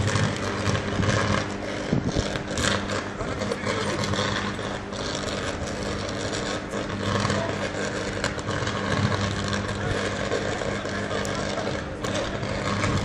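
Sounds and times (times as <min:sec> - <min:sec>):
electric arc buzzing: 0:00.0 - 0:13.0
low electrical hum: 0:00.0 - 0:13.0
rushing crackle: 0:00.0 - 0:13.0.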